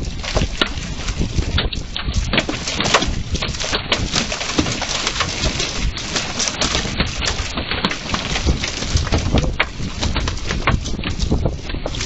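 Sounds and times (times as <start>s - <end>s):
hailstones pelting a wooden deck: 1.5s - 12.0s.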